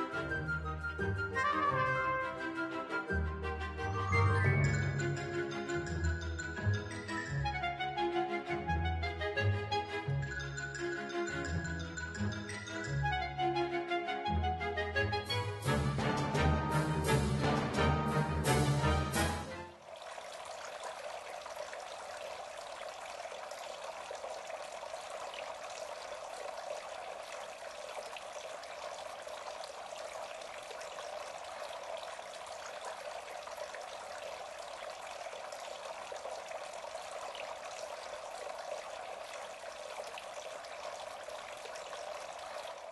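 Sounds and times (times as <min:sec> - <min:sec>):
fountain water trickling: 0:00.0 - 0:42.9.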